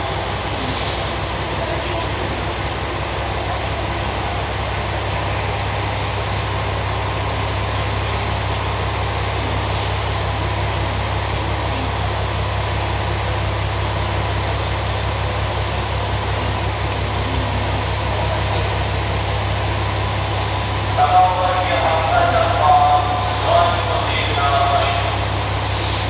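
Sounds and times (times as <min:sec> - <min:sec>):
train hum and fan whir: 0:00.0 - 0:26.0.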